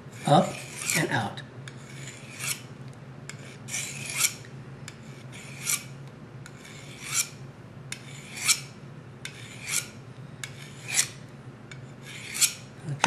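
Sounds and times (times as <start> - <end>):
knife scraping on diamond sharpener: 0.1 - 2.7, 3.3 - 12.7.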